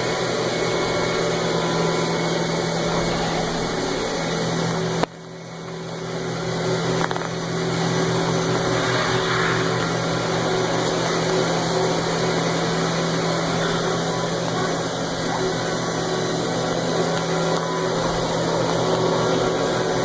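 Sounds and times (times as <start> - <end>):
machining center running hum: 0.0 - 20.0.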